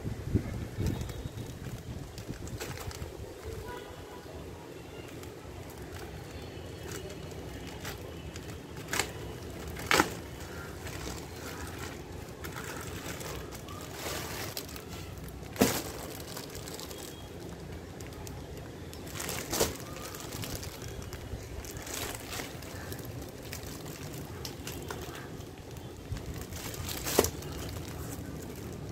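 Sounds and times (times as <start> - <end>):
plastic crinkling and crackling: 0.6 - 28.9
plastic mailer tearing: 5.0 - 28.9.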